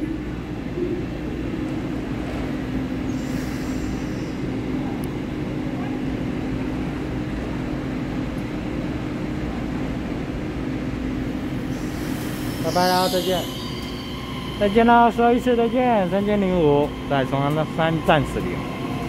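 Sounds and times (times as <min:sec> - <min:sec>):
train equipment hum: 0:00.0 - 0:19.0.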